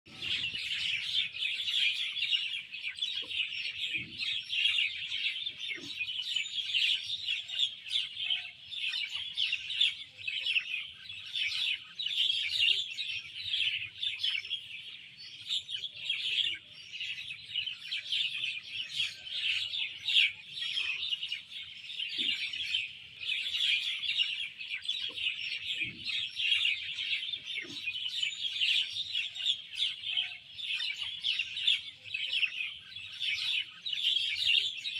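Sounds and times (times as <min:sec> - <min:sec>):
songbirds chirping and twittering: 0:00.0 - 0:34.9.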